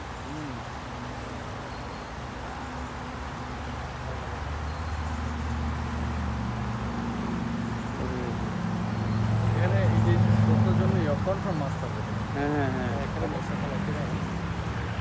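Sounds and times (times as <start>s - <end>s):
low hum of traffic: 0.0s - 15.0s
river water rushing over rocks: 0.0s - 15.0s.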